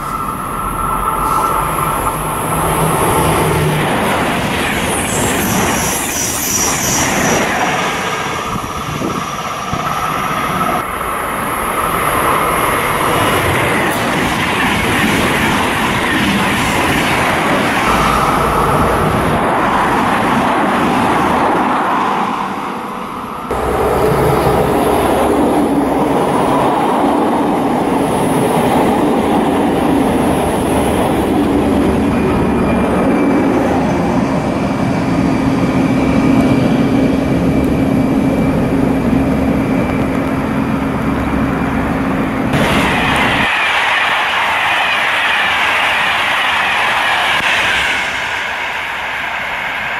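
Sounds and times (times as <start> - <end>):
diesel locomotive engine hum: 0.0 - 49.9
high-speed train rushing past: 0.0 - 49.9
train wheels and rushing air: 0.0 - 49.9.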